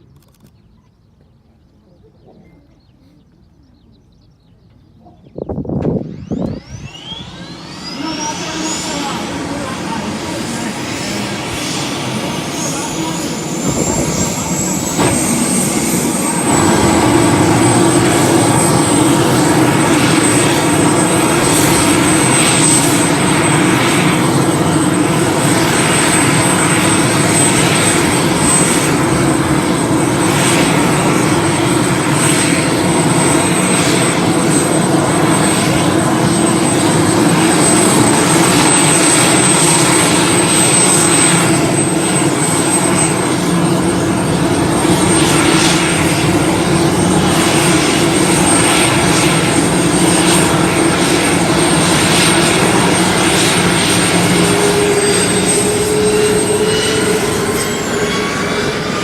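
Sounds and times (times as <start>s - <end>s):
high-pitched turbine whine: 5.3s - 59.0s
jet engine roaring: 5.6s - 59.0s.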